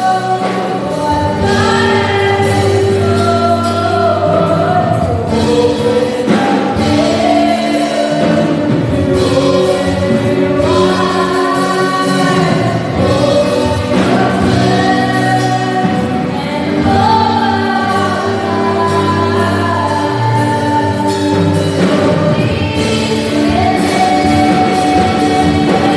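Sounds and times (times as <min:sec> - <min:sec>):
group singing praise song: 0:00.0 - 0:25.9
held instrumental chords: 0:00.0 - 0:25.9.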